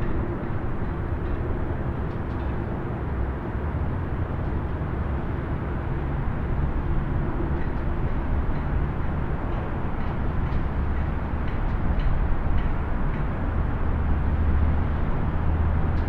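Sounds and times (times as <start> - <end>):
distant highway traffic rumble: 0.0 - 16.0.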